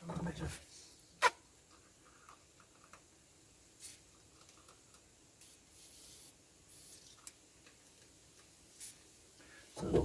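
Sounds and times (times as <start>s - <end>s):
faint hissing and rubbing: 0.0s - 10.0s.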